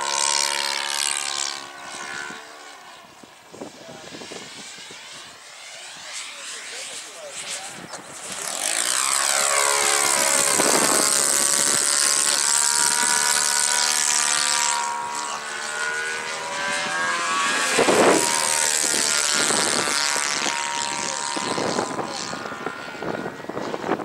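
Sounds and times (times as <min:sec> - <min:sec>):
model airplane motor and propeller: 0:00.0 - 0:24.0
wind buffeting microphone: 0:01.8 - 0:05.4, 0:07.4 - 0:24.0.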